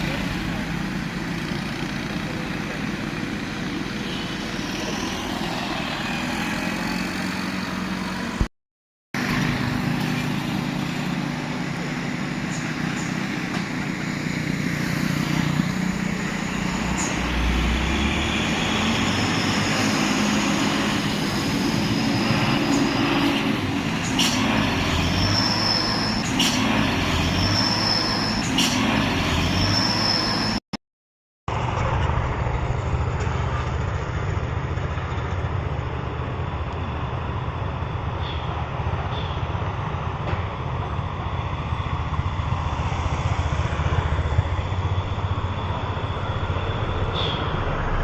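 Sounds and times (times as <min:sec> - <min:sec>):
truck diesel engine roaring: 0:00.0 - 0:08.5, 0:09.2 - 0:30.6, 0:31.5 - 0:48.0.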